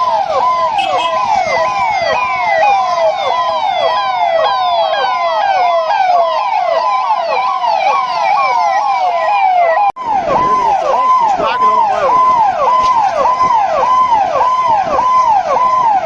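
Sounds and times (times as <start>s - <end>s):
police sirens yelping: 0.0s - 16.0s.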